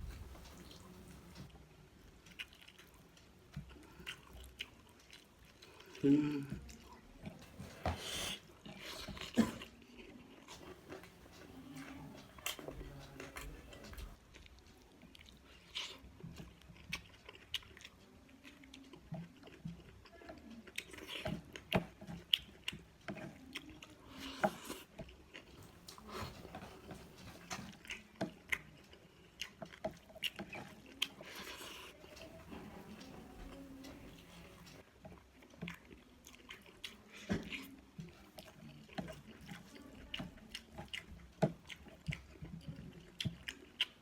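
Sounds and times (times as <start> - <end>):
person chewing: 0.0 - 44.0.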